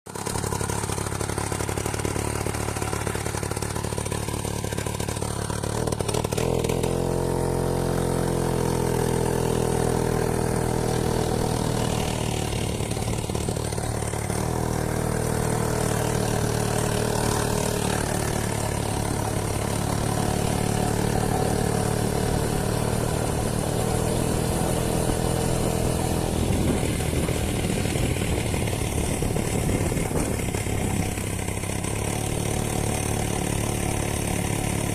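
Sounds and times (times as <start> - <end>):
two-stroke moped engine running: 0.1 - 34.9.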